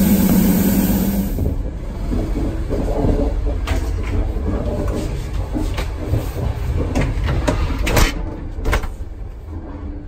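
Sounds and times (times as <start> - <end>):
train coach rumbling: 0.0 - 10.0.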